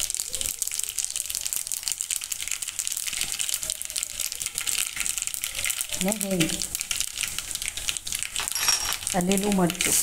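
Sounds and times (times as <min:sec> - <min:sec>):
seeds sizzling in hot oil: 0:00.0 - 0:10.0.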